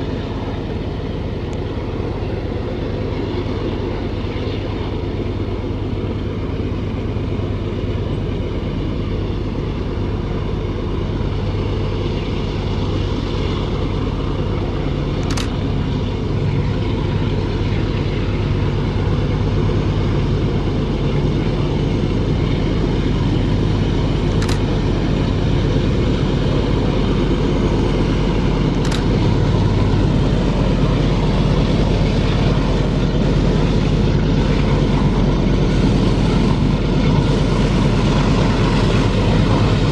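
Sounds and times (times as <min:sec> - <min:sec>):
diesel locomotives engine drone: 0:00.0 - 0:39.9.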